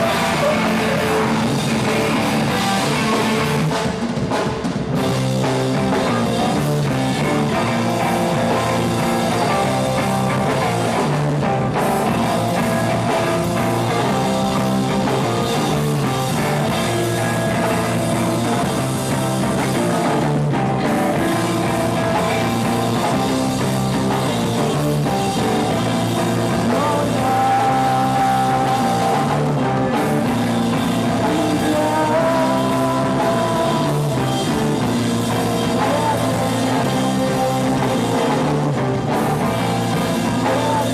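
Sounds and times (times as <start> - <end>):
drum kit: 0.0 - 40.9
electric guitar: 0.0 - 40.9
rock band playing live: 0.0 - 40.9.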